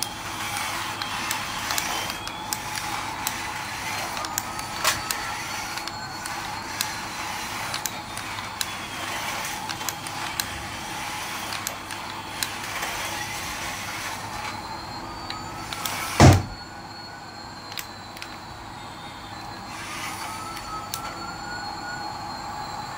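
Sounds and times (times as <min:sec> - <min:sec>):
clicks: 0:00.0 - 0:16.5, 0:17.7 - 0:18.5, 0:20.0 - 0:21.2
toy motor whirring: 0:00.0 - 0:16.6, 0:17.5 - 0:21.8.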